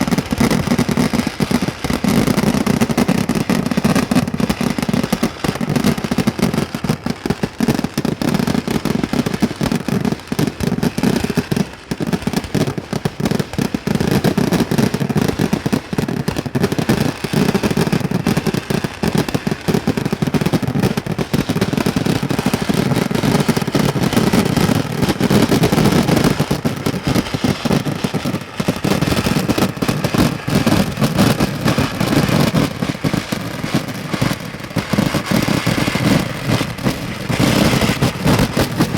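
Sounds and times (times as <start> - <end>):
firecracker bangs: 0.0 - 9.8, 10.6 - 38.9.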